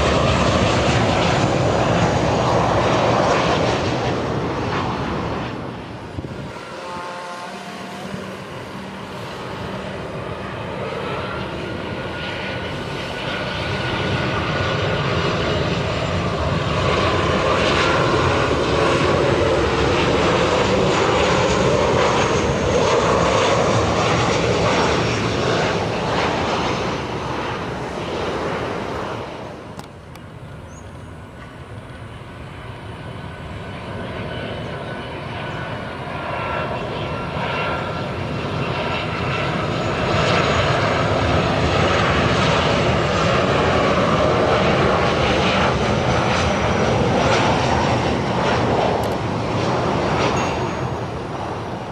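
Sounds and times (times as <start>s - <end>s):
jet engine rumble and whine: 0.0s - 51.9s.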